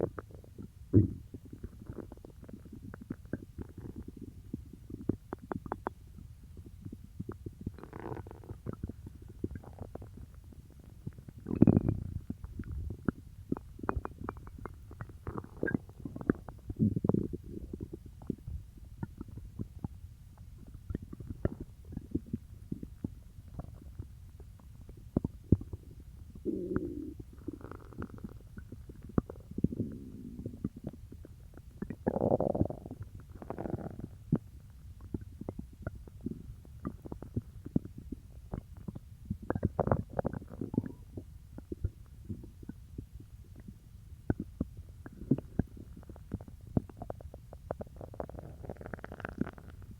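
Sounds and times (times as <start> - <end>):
stomach gurgling: 0.0 - 49.9.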